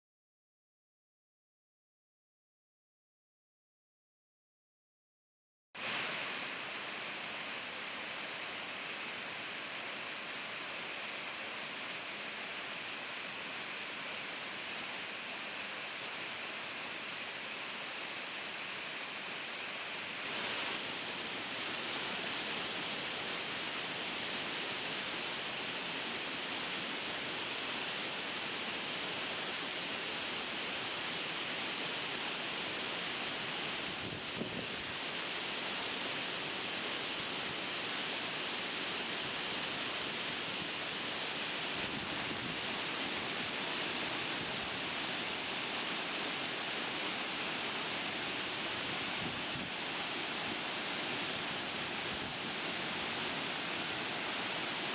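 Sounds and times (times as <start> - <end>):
waterfall rushing: 5.8 - 54.9.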